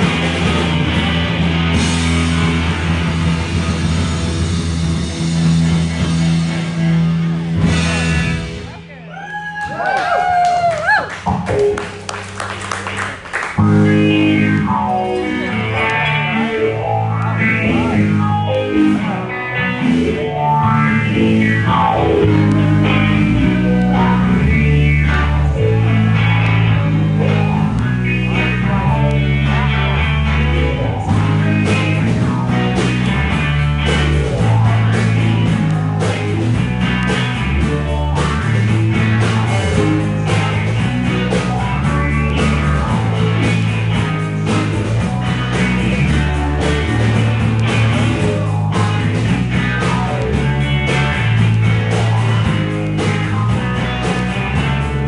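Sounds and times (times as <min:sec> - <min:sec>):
low bass line: 0:00.0 - 0:09.2, 0:10.3 - 0:55.0
live rock band playing: 0:00.0 - 0:55.0.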